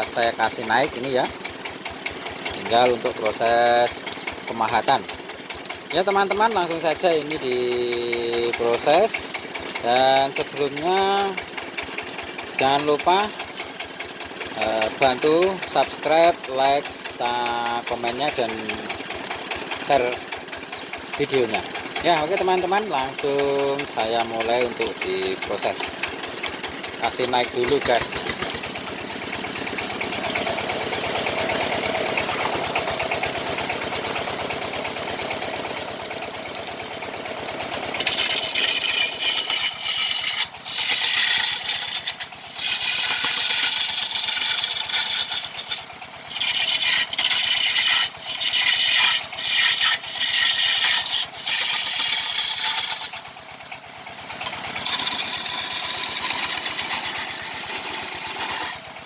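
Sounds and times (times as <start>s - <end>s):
chisel cutting turning wood: 0.0s - 59.0s
wood lathe running: 0.0s - 59.0s.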